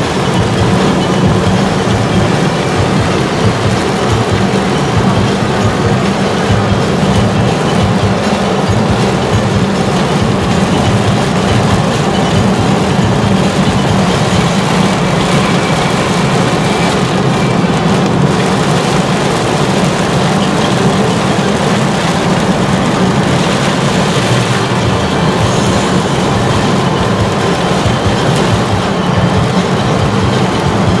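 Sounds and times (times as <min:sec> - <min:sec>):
rain on windshield: 0:00.0 - 0:31.0
road and engine drone: 0:00.0 - 0:31.0
tyres hissing on wet road: 0:00.0 - 0:31.0.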